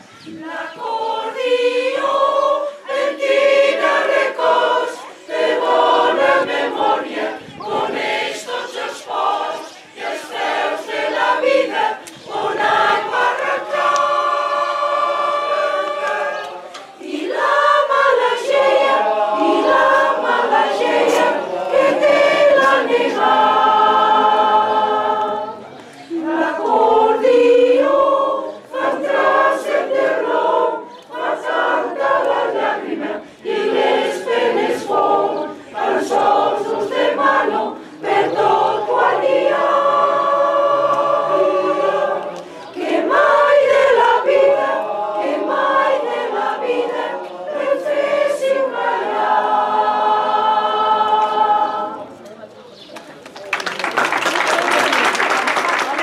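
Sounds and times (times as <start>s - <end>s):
mixed choir singing: 0.0s - 52.2s.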